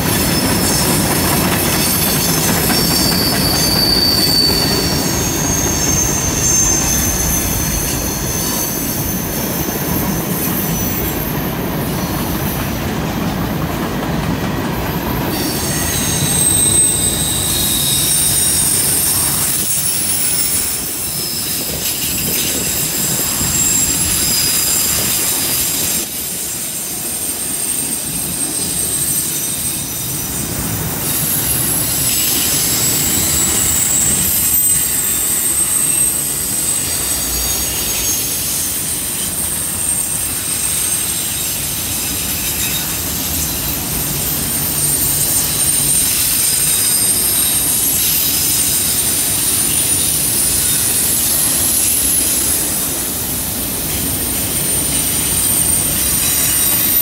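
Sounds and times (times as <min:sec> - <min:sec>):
wheel flange squeal: 0:00.0 - 0:12.9, 0:14.8 - 0:57.0
train wheels rumbling on rails: 0:00.0 - 0:57.0.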